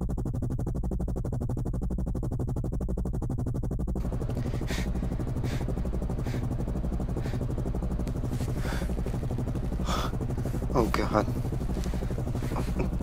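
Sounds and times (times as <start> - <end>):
low pulsing drone: 0.0 - 13.0.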